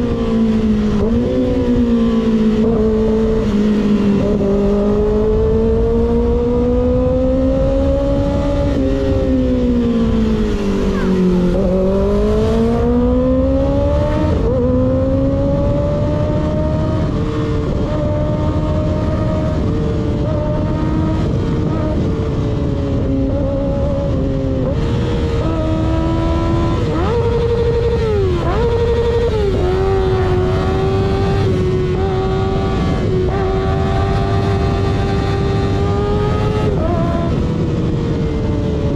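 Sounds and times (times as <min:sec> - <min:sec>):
motorcycle engine revving: 0:00.0 - 0:38.9
wind and road rush: 0:00.0 - 0:38.9.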